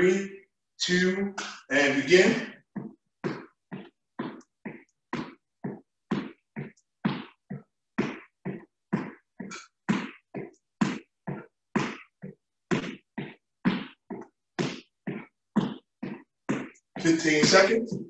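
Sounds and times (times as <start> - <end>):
feet landing on floor: 2.8 - 18.0.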